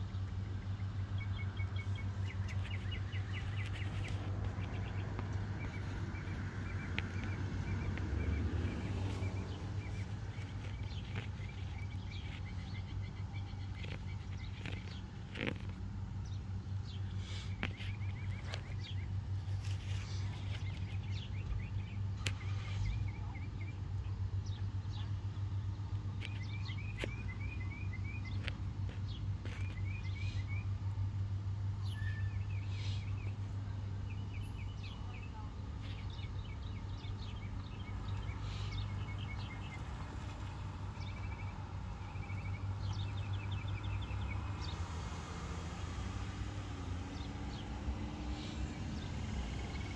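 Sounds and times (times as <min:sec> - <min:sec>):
small bird chirping: 0:00.7 - 0:49.9.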